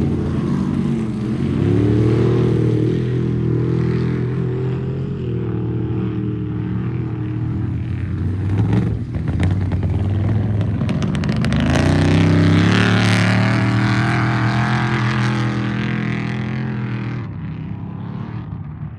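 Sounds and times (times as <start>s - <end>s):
truck engine running hard: 0.0s - 18.9s.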